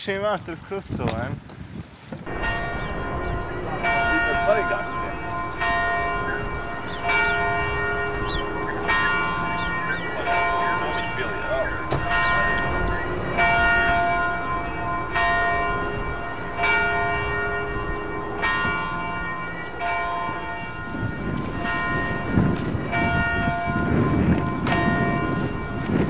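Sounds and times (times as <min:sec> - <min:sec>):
church bells ringing: 0:02.3 - 0:26.0.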